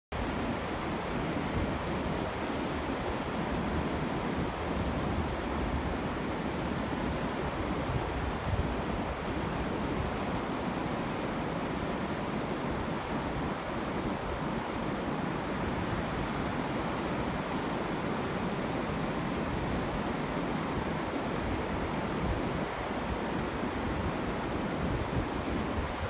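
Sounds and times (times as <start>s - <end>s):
surf washing over sand: 0.2s - 26.0s.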